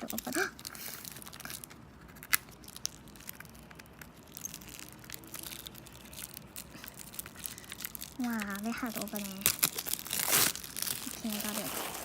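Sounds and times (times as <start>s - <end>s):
packaging crinkling and clicking: 0.0s - 12.0s.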